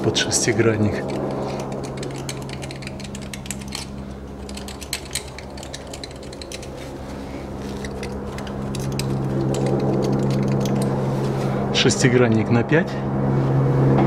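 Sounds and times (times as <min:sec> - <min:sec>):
low hum: 0:00.0 - 0:14.0
metal awl scraping metal: 0:00.3 - 0:11.6.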